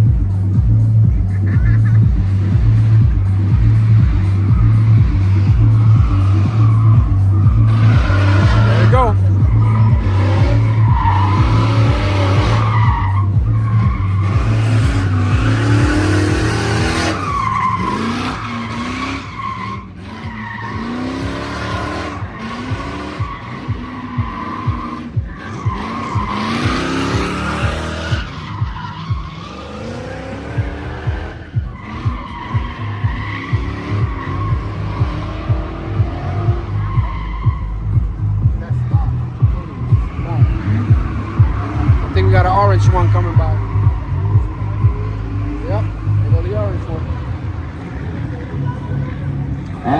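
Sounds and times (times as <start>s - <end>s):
car engines revving: 0.0s - 49.9s
tires squealing: 0.0s - 49.9s.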